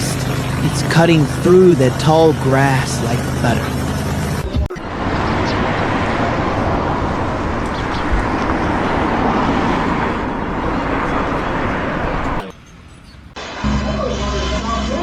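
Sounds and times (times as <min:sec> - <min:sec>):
motor running noise: 0:00.0 - 0:12.4.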